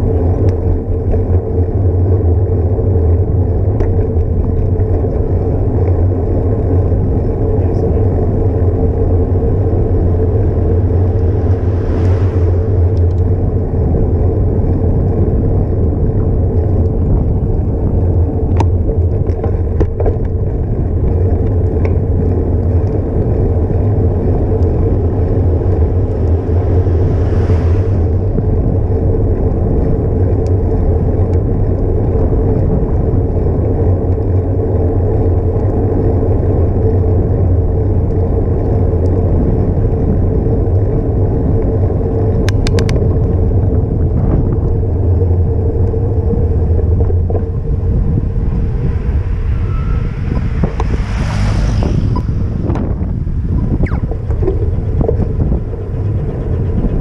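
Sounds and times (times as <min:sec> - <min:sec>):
wind and road rumble: 0:00.0 - 0:57.0.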